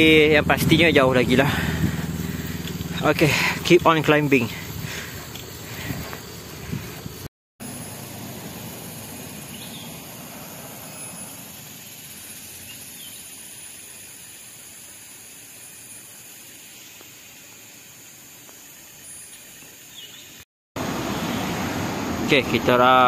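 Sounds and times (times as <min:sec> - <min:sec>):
high insect hiss: 0:00.0 - 0:21.6.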